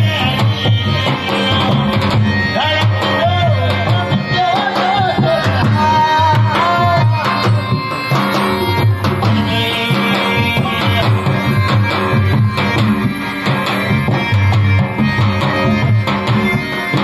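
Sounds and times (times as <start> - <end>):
hand drum rhythm: 0.0 - 17.0
wavering folk melody: 0.0 - 17.0.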